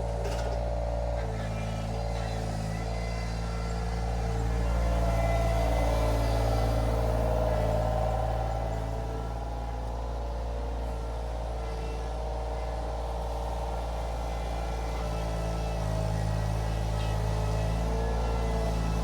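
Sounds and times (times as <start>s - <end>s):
mini skid steer engine running: 0.0s - 19.0s.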